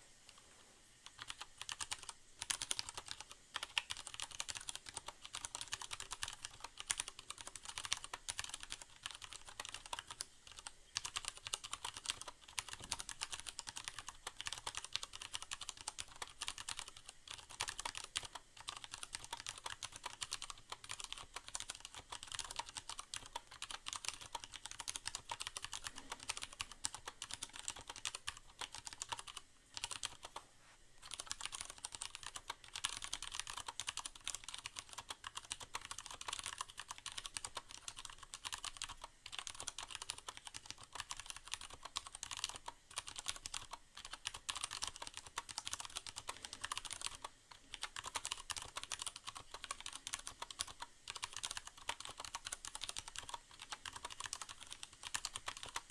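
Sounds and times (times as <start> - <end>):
mechanical keyboard typing: 1.0 - 30.4, 31.0 - 55.9.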